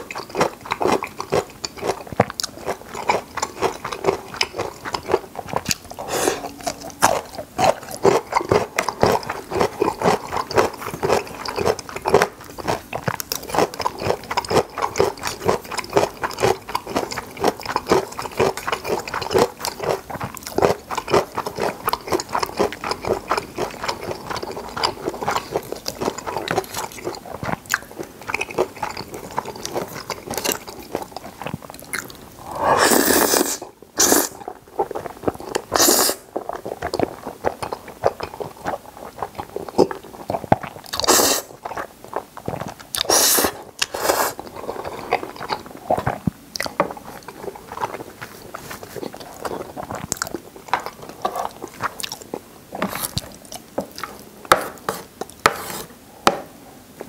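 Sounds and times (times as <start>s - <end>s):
chewing and wet mouth smacks: 0.0s - 32.2s, 33.2s - 54.2s.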